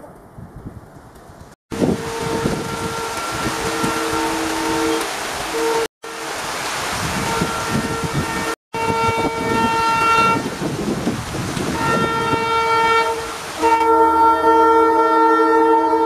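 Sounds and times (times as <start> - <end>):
locomotive air horn blasts: 1.7 - 10.6, 11.6 - 16.0
heavy rain hissing: 1.7 - 16.0.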